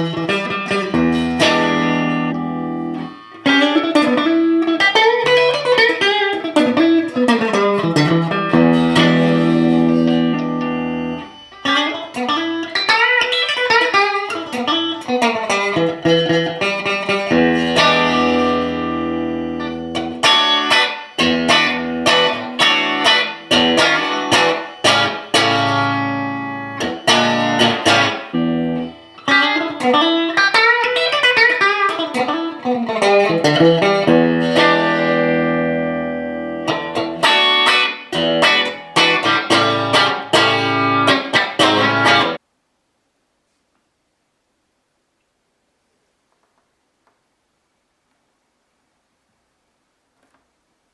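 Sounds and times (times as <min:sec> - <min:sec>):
electric guitar picked notes and chords: 0:00.0 - 0:42.4.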